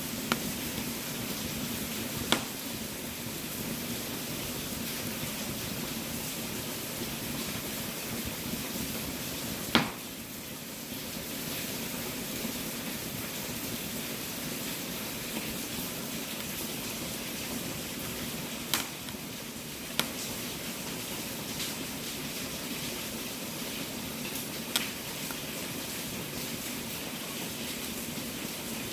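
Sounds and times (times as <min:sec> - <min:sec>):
fire crackling pops: 0:00.0 - 0:10.6, 0:11.2 - 0:26.6
fire hissing: 0:00.0 - 0:27.2.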